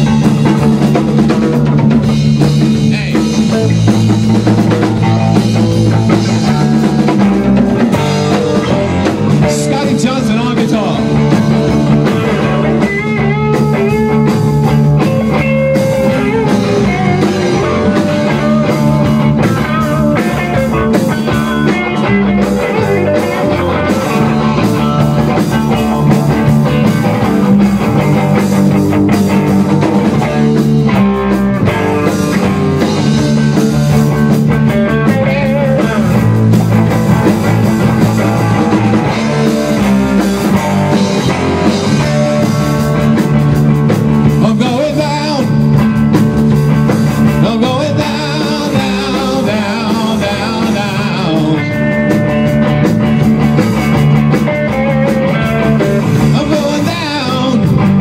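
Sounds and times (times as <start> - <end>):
drum kit rock beat: 0.0 - 58.0
electric guitars through amplifiers: 0.0 - 58.0.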